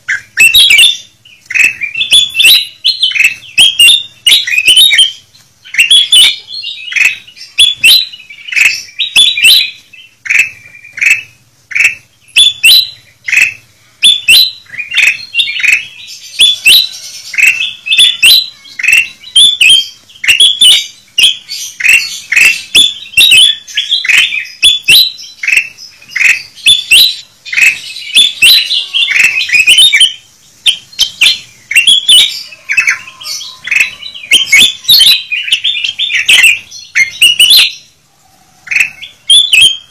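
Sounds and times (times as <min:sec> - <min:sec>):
birds chirping and warbling: 0:00.0 - 0:39.9.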